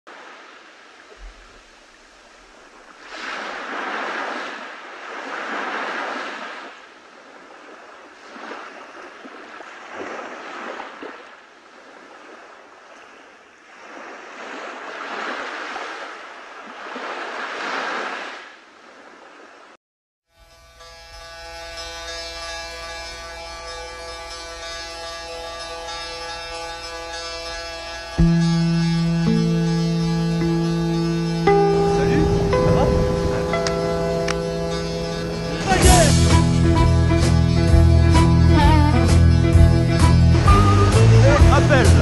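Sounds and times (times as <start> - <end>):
rushing water: 0.1 - 19.8, 22.2 - 42.0.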